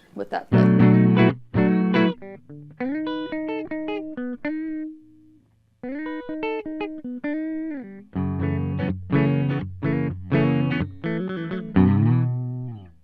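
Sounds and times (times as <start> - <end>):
clean electric guitar melody: 0.5 - 13.0
electric guitar strummed chords: 0.5 - 13.0.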